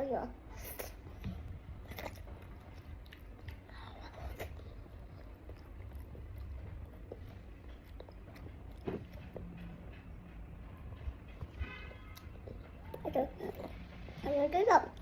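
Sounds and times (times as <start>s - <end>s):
child chewing and eating: 0.0s - 15.0s
low background hum: 0.0s - 15.0s.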